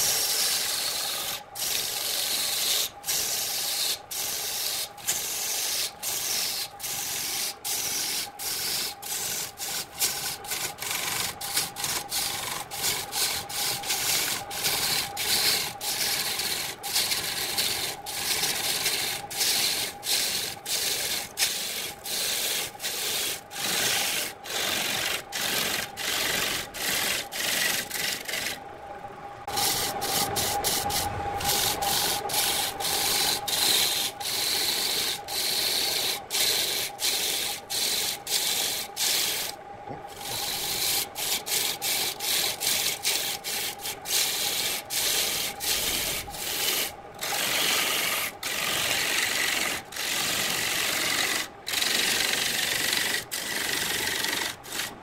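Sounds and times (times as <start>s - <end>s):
lathe tool scraping wood: 0.0s - 28.6s, 29.5s - 55.0s.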